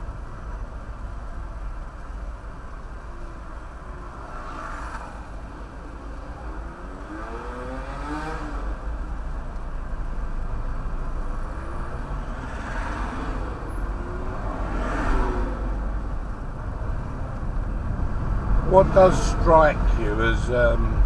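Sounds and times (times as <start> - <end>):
low road rumble: 0.0 - 21.0
muffled car engine: 0.0 - 21.0.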